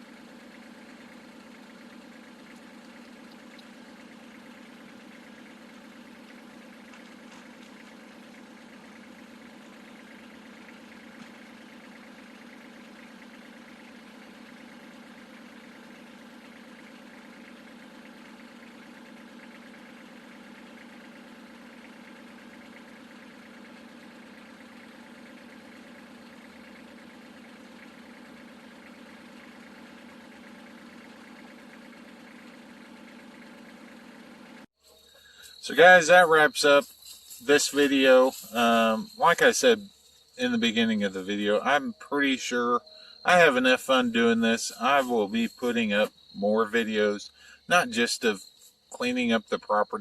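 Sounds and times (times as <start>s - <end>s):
engine idling faintly: 0.0s - 50.0s.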